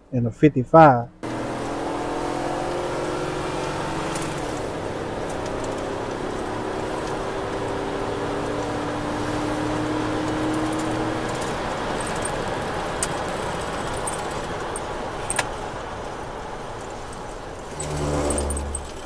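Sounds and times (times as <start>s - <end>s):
car road and engine noise: 1.1s - 19.0s.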